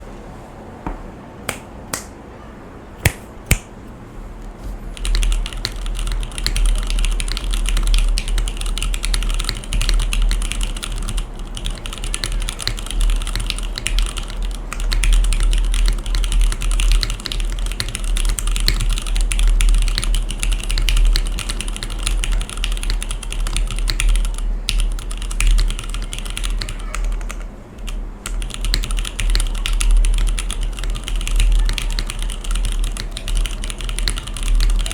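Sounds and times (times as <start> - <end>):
mechanical keyboard typing: 4.9 - 34.9.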